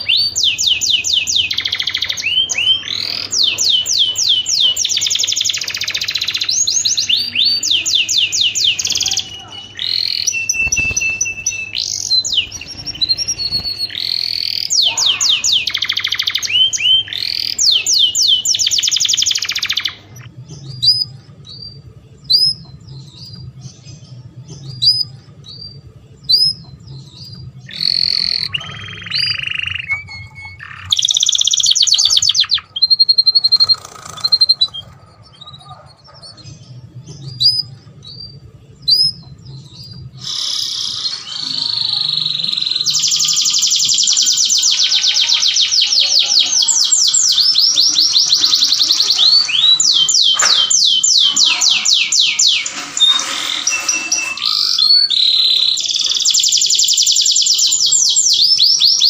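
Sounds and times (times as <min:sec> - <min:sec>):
canaries singing trills: 0:00.0 - 0:59.0.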